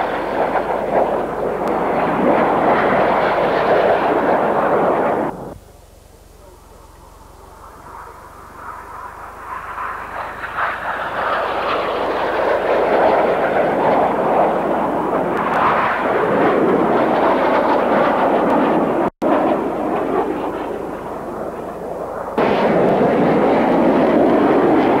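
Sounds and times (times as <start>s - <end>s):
jet aircraft passing low: 0.0s - 25.0s.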